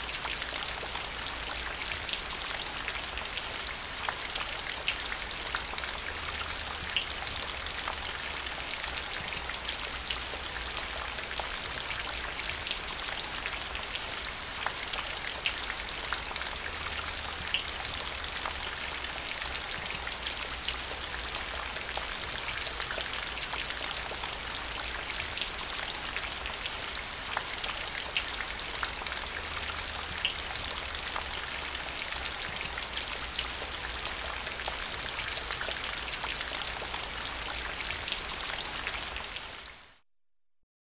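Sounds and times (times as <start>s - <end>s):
rain on wet paving: 0.0s - 40.0s.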